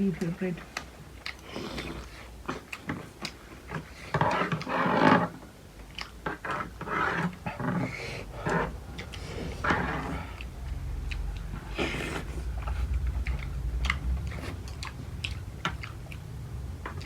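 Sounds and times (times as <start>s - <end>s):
wet chewing and lip smacks: 0.2s - 4.8s, 5.8s - 6.4s, 7.3s - 17.0s.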